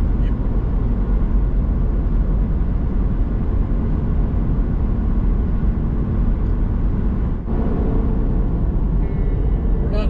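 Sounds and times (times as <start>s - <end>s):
pickup truck engine and road rumble: 0.0s - 10.0s.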